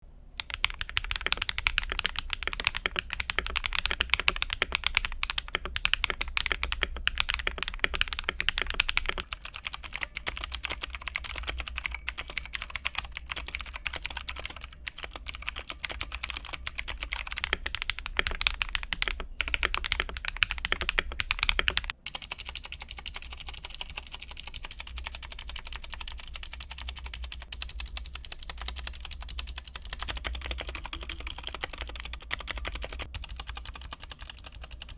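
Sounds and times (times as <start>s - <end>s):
mechanical keyboard typing: 0.4s - 34.9s.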